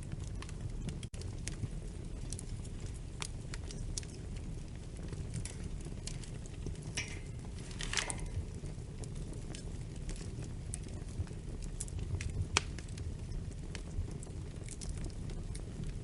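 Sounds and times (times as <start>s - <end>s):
fire pops and snaps: 0.0s - 16.0s
wood fire crackling: 0.0s - 16.0s.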